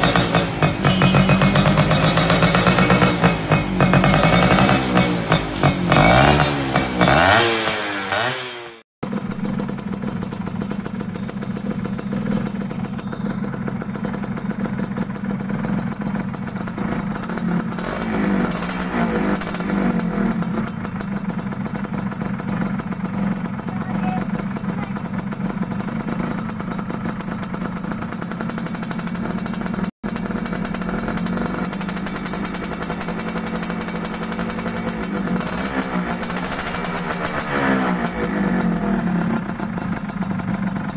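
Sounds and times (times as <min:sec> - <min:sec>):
two-stroke engine idling: 0:00.0 - 0:08.4, 0:09.0 - 0:40.9.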